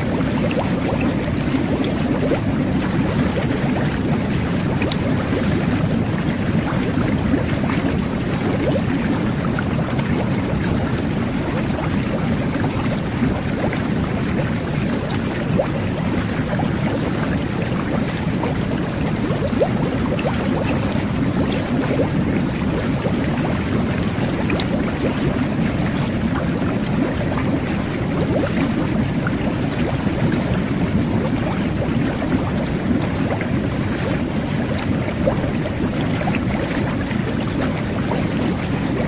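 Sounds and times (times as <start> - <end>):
bath water jets churning: 0.0 - 39.0
bubbles popping: 0.0 - 39.0.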